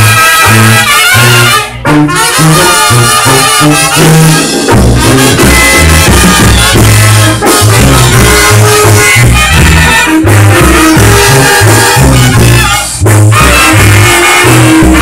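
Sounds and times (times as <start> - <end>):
trumpets and trombones melody: 0.0 - 15.0
tuba bass line: 0.0 - 15.0.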